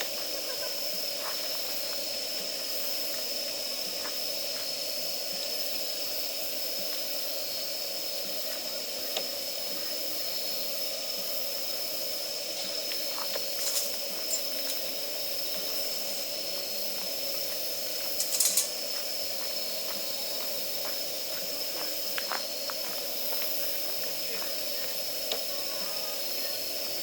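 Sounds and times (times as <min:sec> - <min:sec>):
damp firewood hissing: 0:00.0 - 0:27.0.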